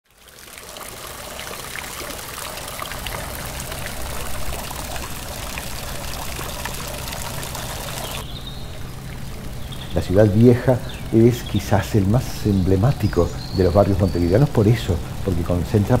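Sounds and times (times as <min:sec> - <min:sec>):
fountain water splashing: 0:00.1 - 0:16.0.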